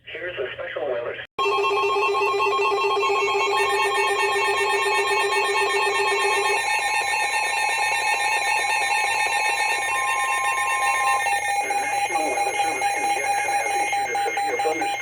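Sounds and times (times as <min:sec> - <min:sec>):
emergency alert beeps and tones: 0:01.4 - 0:15.0.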